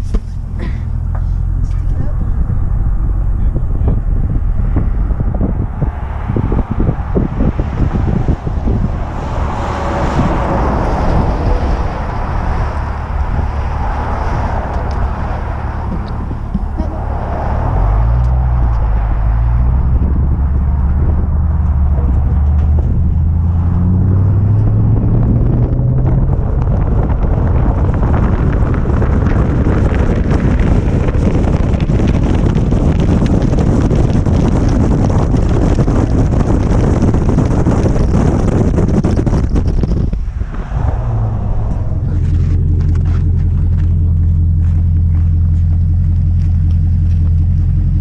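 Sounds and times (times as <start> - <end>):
truck exhaust rumble: 0.0 - 48.0
loud steady rushing noise: 2.0 - 44.1.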